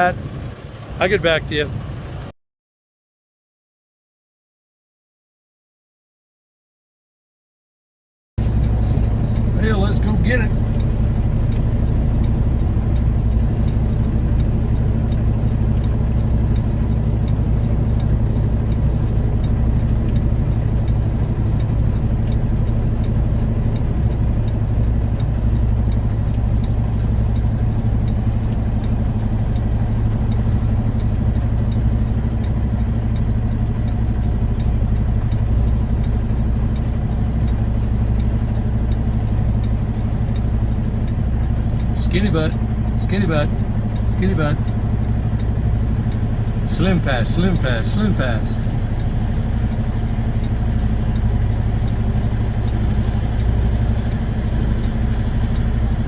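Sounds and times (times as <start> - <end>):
diesel engine running at low revs: 0.0 - 2.4, 8.4 - 56.0.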